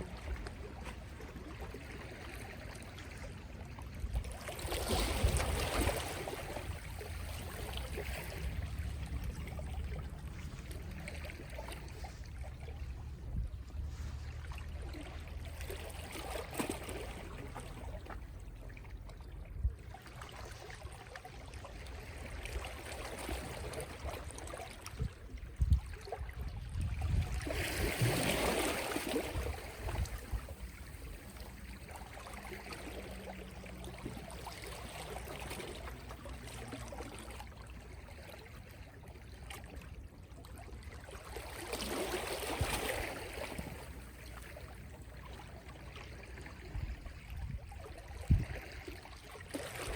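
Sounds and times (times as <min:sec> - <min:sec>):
waves lapping on shore: 0:00.0 - 0:49.9.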